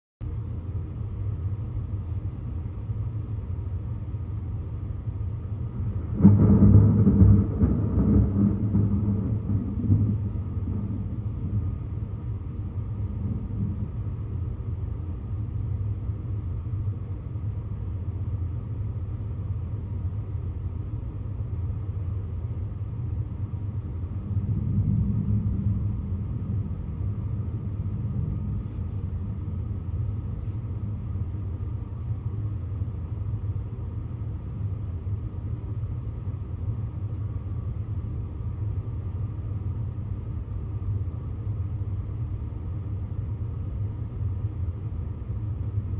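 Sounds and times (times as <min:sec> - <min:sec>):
low rumble of thunder: 0:00.2 - 0:45.9.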